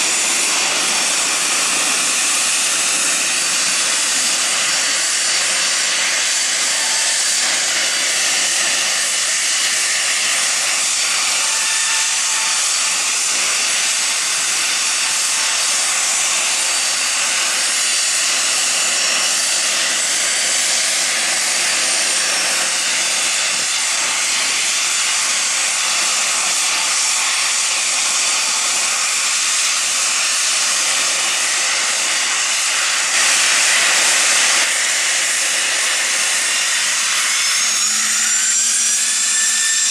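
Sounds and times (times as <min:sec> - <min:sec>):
jet turbine hiss: 0:00.0 - 0:39.9.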